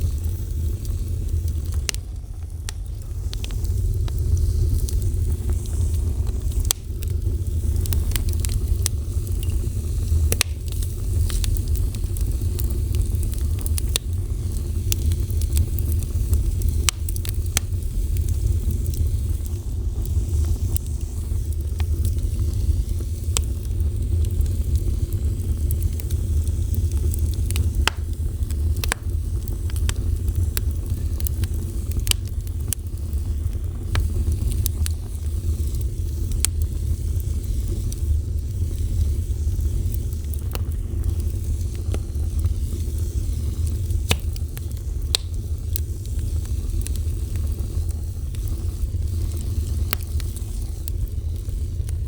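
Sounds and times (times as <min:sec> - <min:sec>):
fire rumbling: 0:00.0 - 0:52.0
wood crackling and popping: 0:00.0 - 0:52.0.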